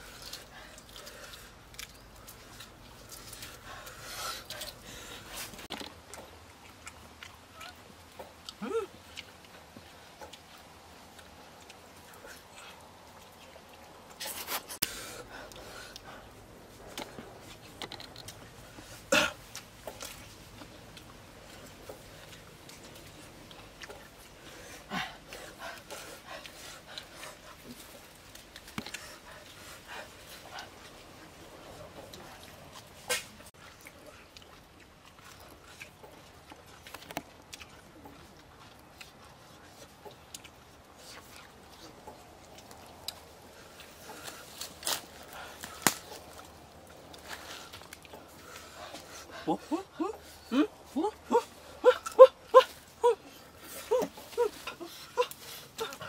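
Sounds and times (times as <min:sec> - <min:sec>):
chewing: 0:00.0 - 0:56.0
quiet eating sounds: 0:00.0 - 0:56.0.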